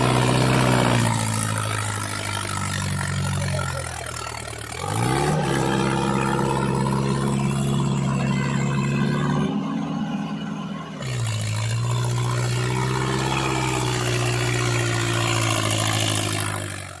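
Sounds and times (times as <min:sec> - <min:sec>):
small tractor engine humming: 0:00.0 - 0:17.0.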